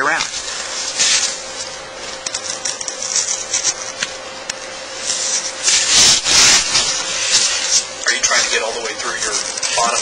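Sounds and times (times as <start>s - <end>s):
craft knife scratching veneer: 0.3s - 4.2s, 5.0s - 10.0s.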